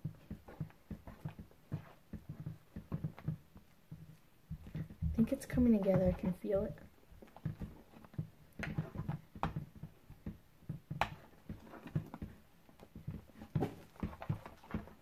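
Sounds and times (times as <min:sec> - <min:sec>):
soft low thuds: 0:00.0 - 0:15.0.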